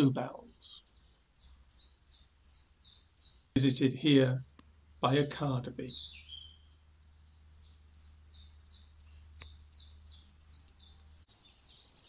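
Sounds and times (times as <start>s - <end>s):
songbird singing high notes: 0.2s - 3.9s, 5.1s - 12.0s.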